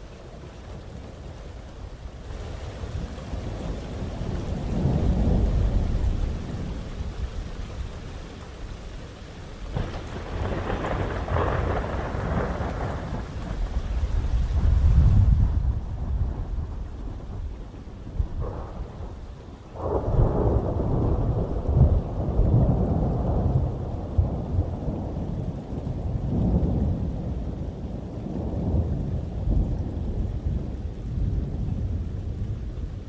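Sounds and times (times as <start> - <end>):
heavy rain: 0.0 - 33.0
thunder rumbling: 2.9 - 7.6, 9.7 - 33.0.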